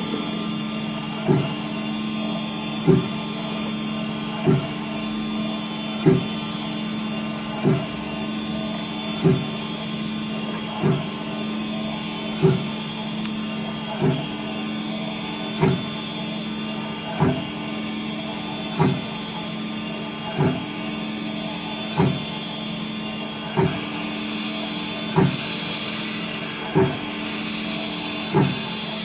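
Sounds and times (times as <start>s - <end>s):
high hiss of cutter grinding: 0.0s - 29.0s
machine motor hum: 0.0s - 29.0s.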